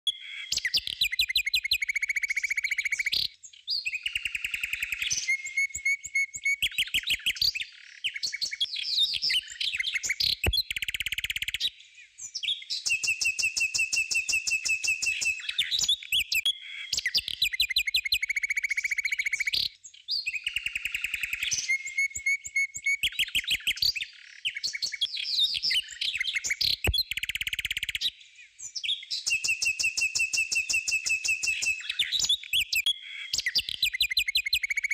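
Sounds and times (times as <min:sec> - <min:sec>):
bird chirps and trills: 0:00.1 - 0:34.9.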